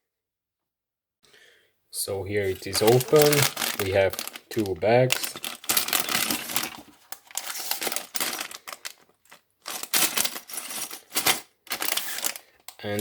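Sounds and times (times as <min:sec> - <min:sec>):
plastic bags rustling: 0:02.3 - 0:13.0
small bricks rattling: 0:02.6 - 0:13.0.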